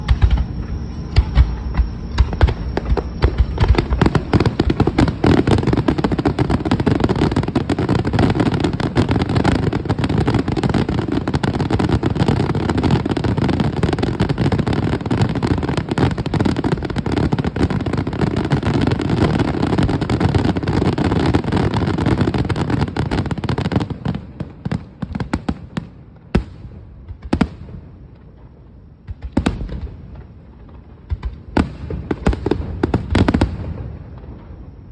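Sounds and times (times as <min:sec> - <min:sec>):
fireworks bursts and crackling: 0:00.0 - 0:34.9.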